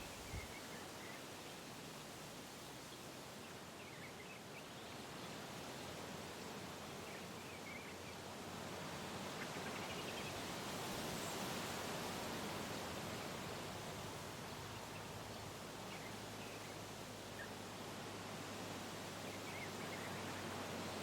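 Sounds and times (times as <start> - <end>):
wind rustling through trees: 0.0 - 21.0.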